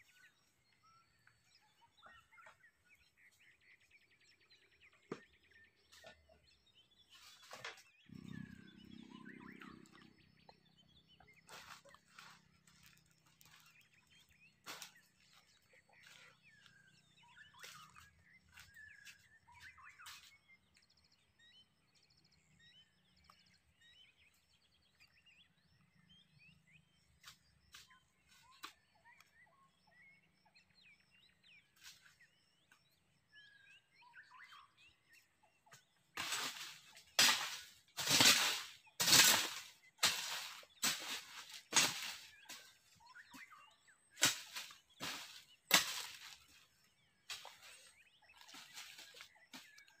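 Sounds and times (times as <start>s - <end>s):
birds chirping and trilling: 0.0s - 50.0s.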